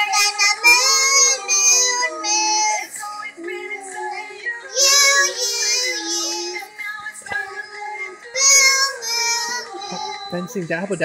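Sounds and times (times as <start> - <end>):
girl singing pop melody: 0.0 - 10.6.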